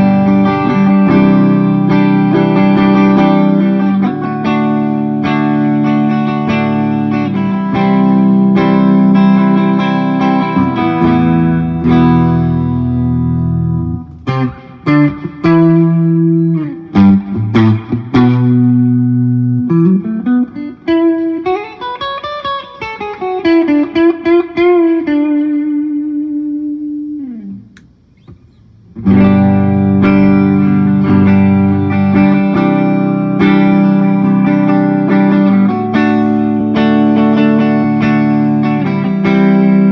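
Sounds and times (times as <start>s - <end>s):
electric guitar through valve amp: 0.0s - 39.9s.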